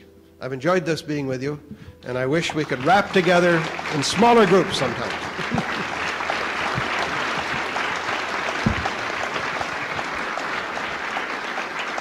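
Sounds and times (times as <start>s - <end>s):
audience applauding: 2.0s - 12.0s.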